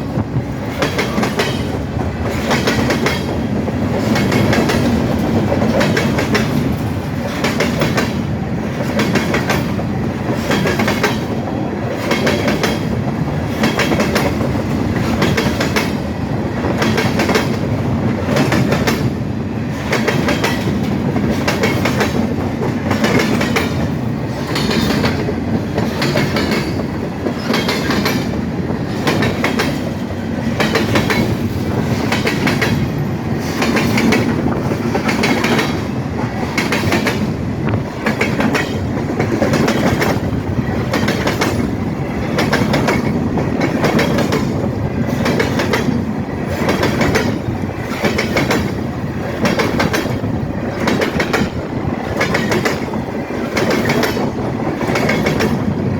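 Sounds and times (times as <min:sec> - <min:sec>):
train rumble: 0:00.0 - 0:55.9
train wheels clattering over rail joints: 0:00.0 - 0:55.9.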